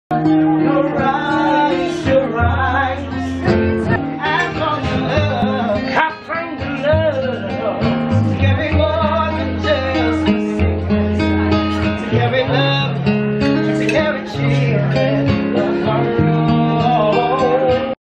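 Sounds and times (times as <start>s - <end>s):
guitar: 0.1s - 18.0s
person singing: 0.1s - 18.0s
sustained bass line: 0.1s - 18.0s.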